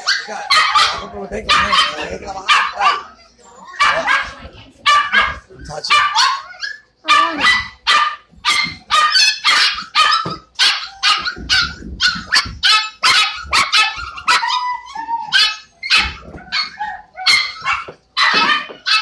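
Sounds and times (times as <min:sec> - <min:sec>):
puppy yapping: 0:00.0 - 0:19.0.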